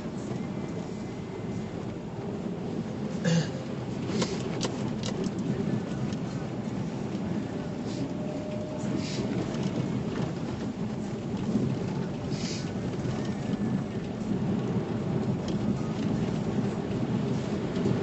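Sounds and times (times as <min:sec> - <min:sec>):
low rumble of road and engine: 0:00.0 - 0:18.0.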